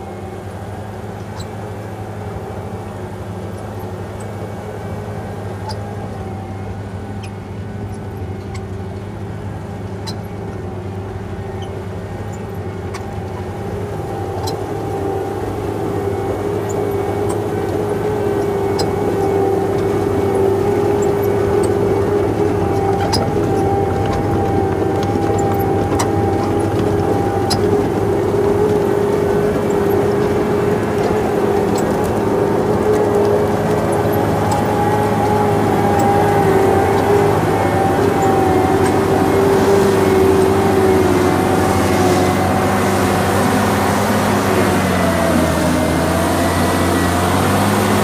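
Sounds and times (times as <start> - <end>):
diesel engine running under load: 0.0 - 48.0.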